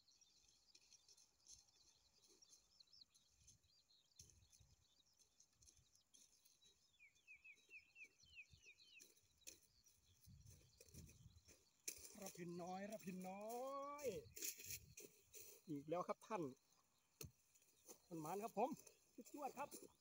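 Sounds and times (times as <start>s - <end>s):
distant small birds twittering: 0.0s - 20.0s.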